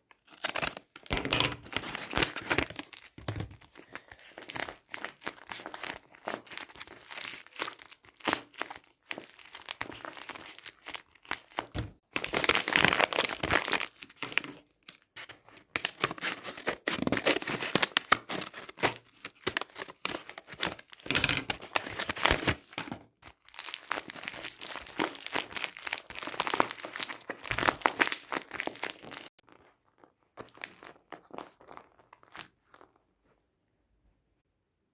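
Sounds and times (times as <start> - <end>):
plastic packaging crinkling: 0.2 - 33.0.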